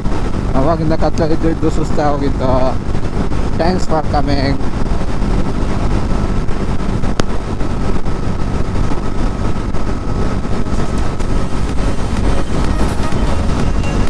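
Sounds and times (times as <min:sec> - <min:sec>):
motorcycle engine running: 0:00.0 - 0:14.0
wind rush over microphone: 0:00.0 - 0:14.0.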